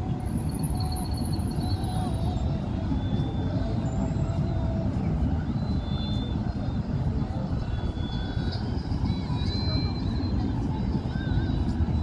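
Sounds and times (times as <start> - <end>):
faint distant voices: 0.0 - 12.0
road traffic rumble: 0.0 - 12.0
wind on microphone: 0.0 - 12.0.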